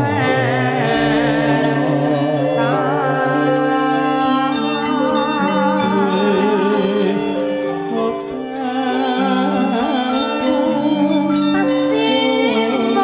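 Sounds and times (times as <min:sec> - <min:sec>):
high melody with vibrato: 0:00.0 - 0:13.0.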